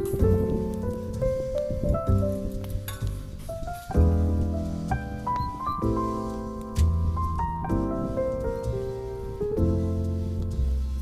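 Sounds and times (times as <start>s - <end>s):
calm instrumental melody: 0.0s - 11.0s.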